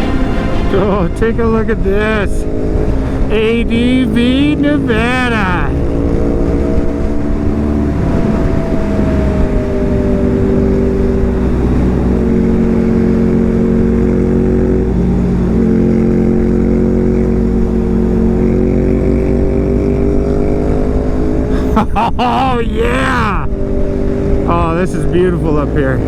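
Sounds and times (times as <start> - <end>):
motorcycle engine running: 0.0 - 21.6
wind rumble: 0.0 - 22.2.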